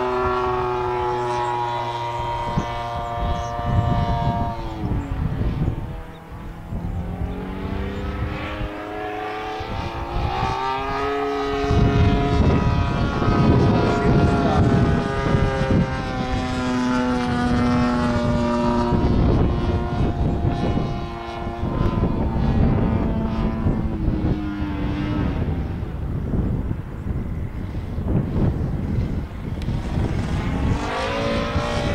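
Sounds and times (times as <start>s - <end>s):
model plane engine buzzing overhead: 0.0s - 31.9s.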